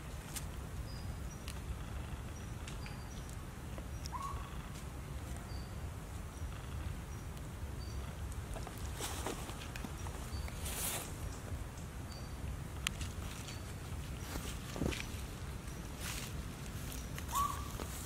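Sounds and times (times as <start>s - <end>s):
birds chirping: 0.7s - 18.0s.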